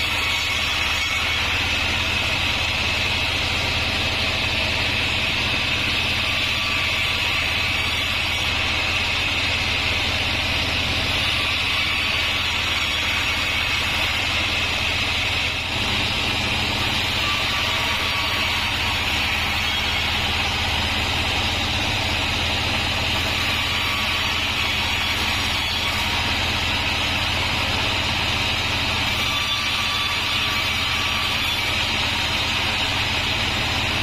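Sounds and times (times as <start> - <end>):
band sawmill running: 0.0 - 34.0.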